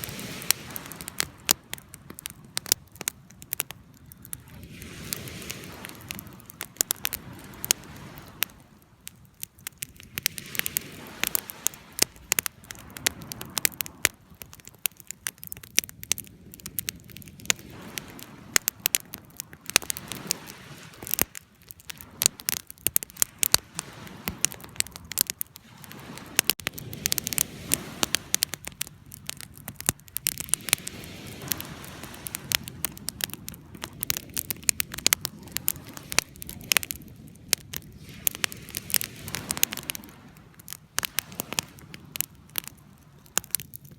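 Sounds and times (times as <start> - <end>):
rushing of flames: 0.0 - 43.9
wood fire crackling: 0.0 - 43.9.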